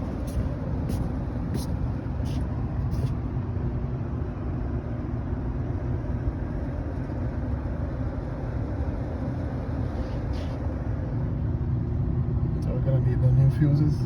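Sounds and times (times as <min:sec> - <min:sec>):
air conditioner rumbling: 0:00.0 - 0:14.0.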